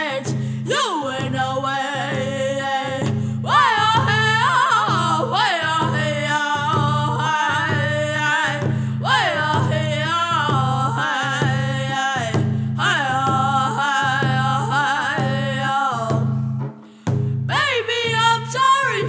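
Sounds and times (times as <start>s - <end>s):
boys singing: 0.0s - 16.4s
hand drum beat: 0.0s - 19.0s.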